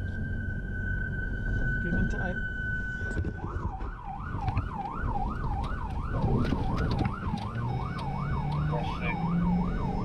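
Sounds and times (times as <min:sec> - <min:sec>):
engine running low: 0:00.0 - 0:10.0
steady siren tone: 0:00.0 - 0:10.0
electronic siren yelping: 0:00.5 - 0:10.0.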